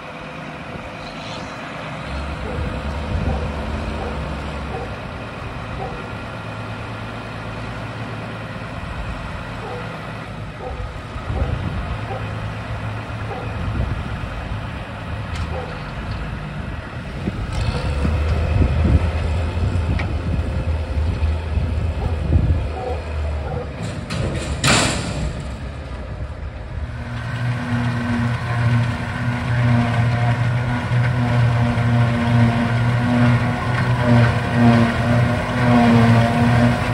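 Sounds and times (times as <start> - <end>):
steady engine hum: 0.0 - 36.9
tractor diesel engine running: 0.0 - 36.9.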